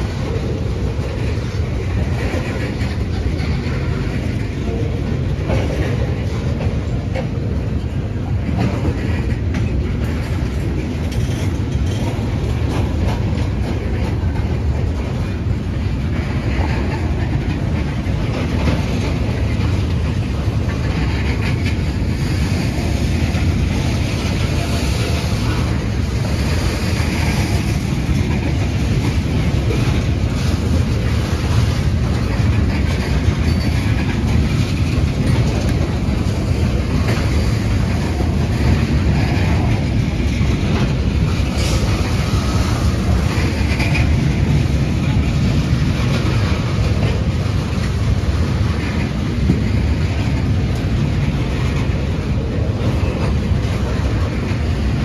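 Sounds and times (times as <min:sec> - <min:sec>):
freight train wheels rumbling: 0:00.0 - 0:55.0
wheels clacking over rail joints: 0:00.0 - 0:55.0.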